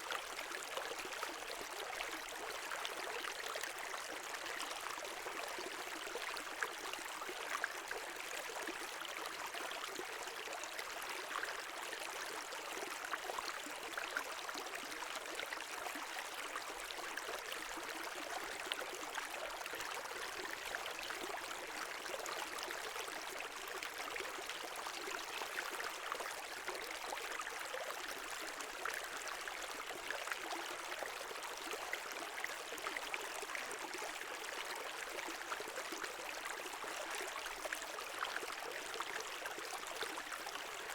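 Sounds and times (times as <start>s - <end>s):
brook water babbling over stones: 0.0s - 40.9s.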